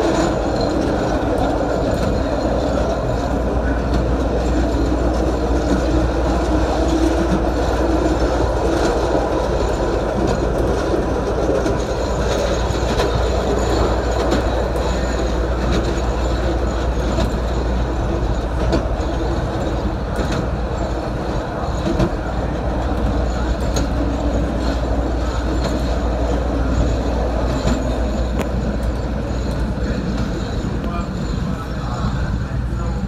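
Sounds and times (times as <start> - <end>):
wheel clicks over rail joints: 0.0 - 31.0
train rumbling on elevated track: 0.0 - 33.0.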